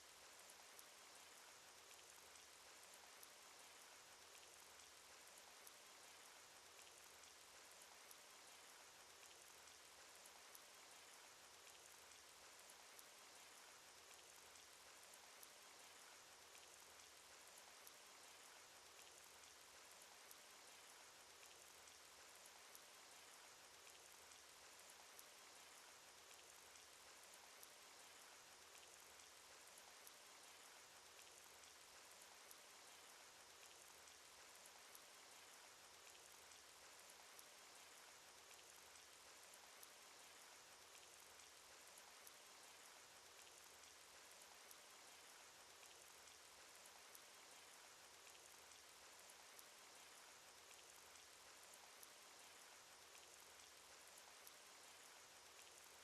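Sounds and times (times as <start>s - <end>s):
faint rain hiss: 0.0s - 56.0s.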